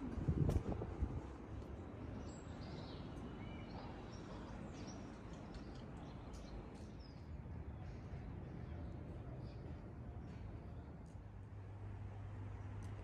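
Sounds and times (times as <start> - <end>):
city background hum: 0.0 - 13.0.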